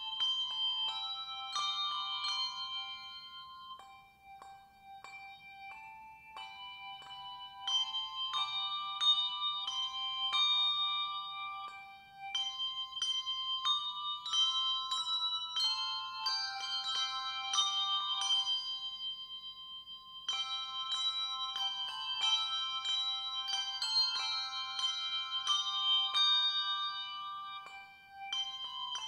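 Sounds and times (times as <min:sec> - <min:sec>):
handbell choir playing: 0:00.0 - 0:29.0.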